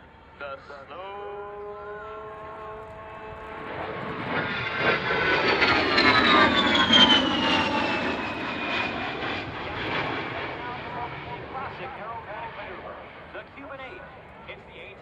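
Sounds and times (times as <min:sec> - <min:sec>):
jet engines whining on a pass: 0:00.0 - 0:15.0.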